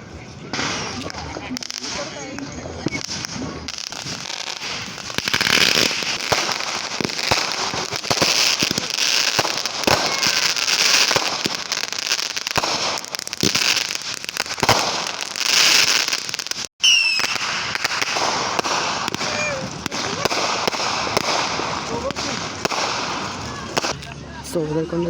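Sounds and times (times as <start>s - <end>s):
fireworks crackling: 0.0s - 24.2s
sharp pops: 3.0s - 24.1s.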